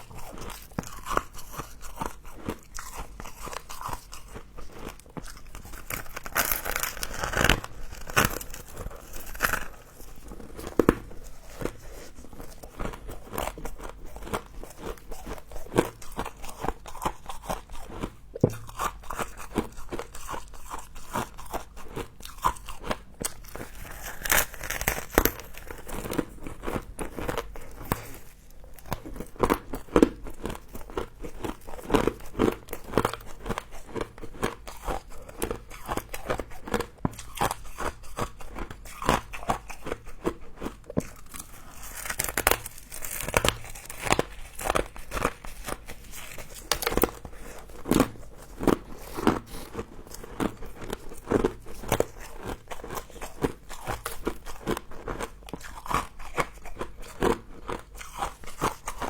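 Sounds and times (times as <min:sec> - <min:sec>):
person crunching frost: 0:00.0 - 0:36.4, 0:40.7 - 0:59.0.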